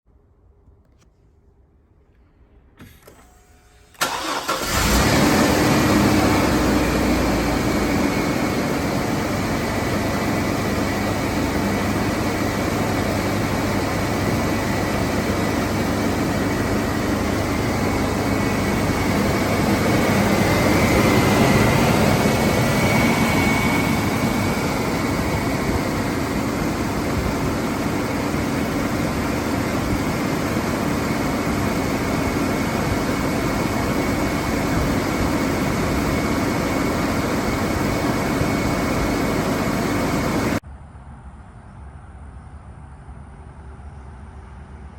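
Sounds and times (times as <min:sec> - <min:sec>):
car engine idling: 0:02.6 - 0:40.6
engine cranking: 0:02.8 - 0:40.6.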